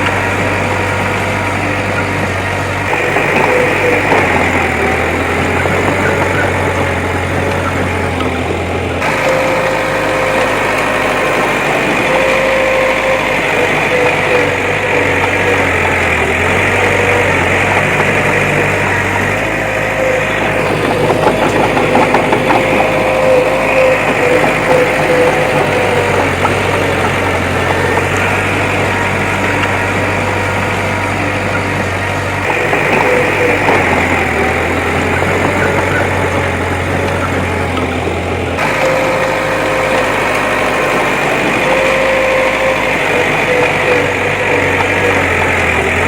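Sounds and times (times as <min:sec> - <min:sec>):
heavy machinery diesel engine: 0:00.0 - 0:46.0.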